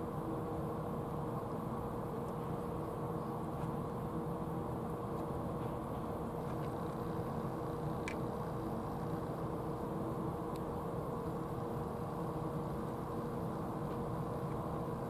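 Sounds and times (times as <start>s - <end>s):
faint constant hum: 0.0s - 15.0s.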